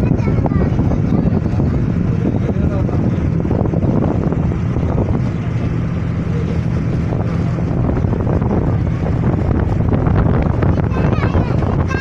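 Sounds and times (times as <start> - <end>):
ferry engine droning: 0.0 - 12.0
wind buffeting microphone: 0.0 - 12.0.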